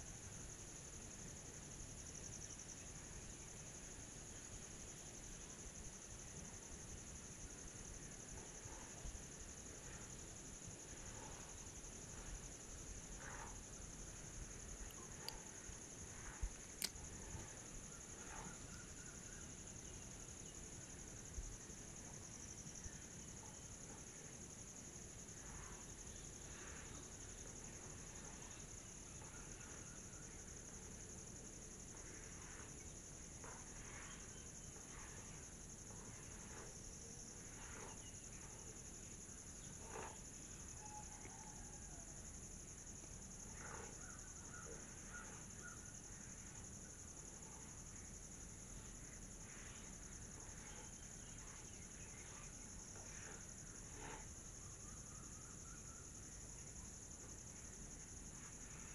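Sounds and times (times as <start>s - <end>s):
high-pitched insect trill: 0.0s - 58.9s.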